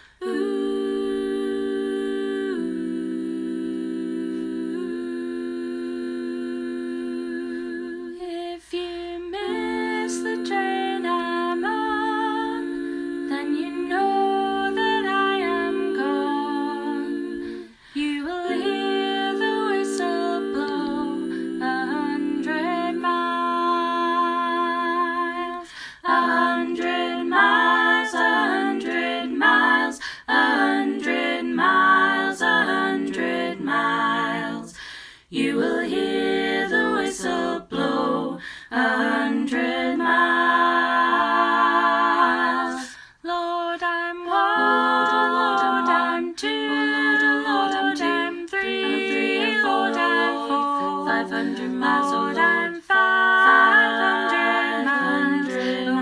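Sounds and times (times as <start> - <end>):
woman singing a cappella harmonies: 0.0 - 56.0.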